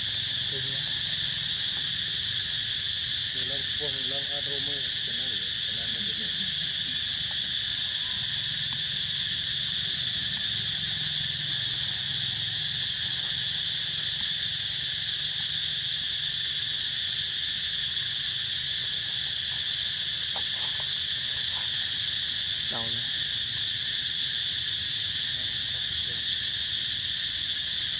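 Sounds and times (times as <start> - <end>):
insects chorus high shrill drone: 0.0 - 27.9.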